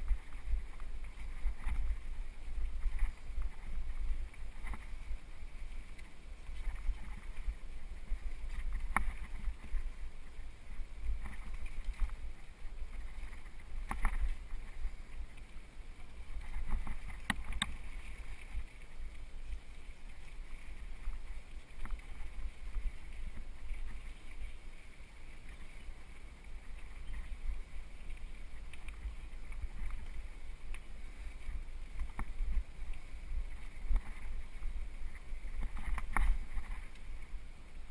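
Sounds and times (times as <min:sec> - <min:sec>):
bike trail rumble: 0:00.0 - 0:37.9.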